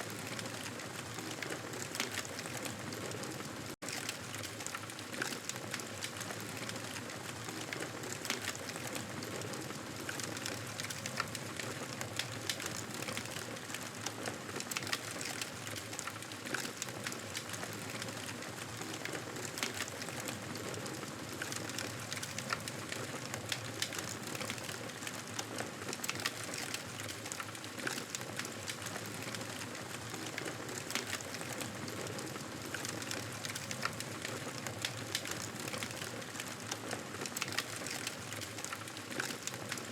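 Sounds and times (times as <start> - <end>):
campfire burning with crackles: 0.0 - 39.9.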